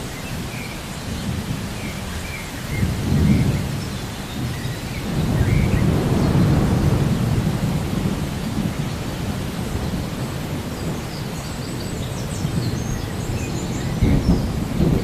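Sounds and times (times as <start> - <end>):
steady rain: 0.0 - 15.0
thunder rumbling: 2.7 - 15.0.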